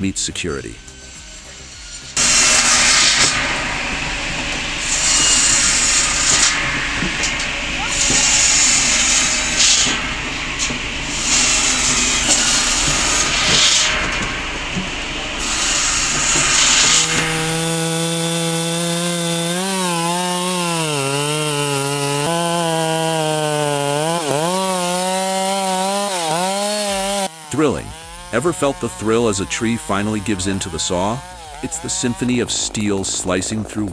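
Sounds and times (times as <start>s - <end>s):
chainsaw engine running: 0.0s - 33.9s
power saw cutting wood: 0.0s - 33.9s.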